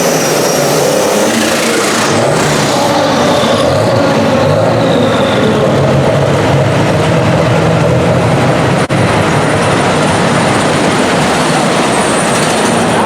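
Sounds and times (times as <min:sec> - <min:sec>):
tractor engine at full power: 0:00.0 - 0:13.0.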